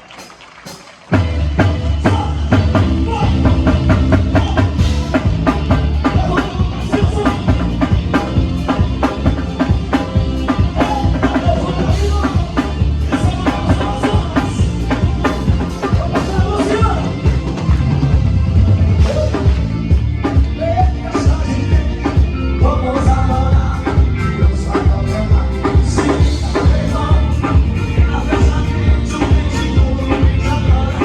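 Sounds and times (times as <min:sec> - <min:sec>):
live band music: 0:00.0 - 0:31.0.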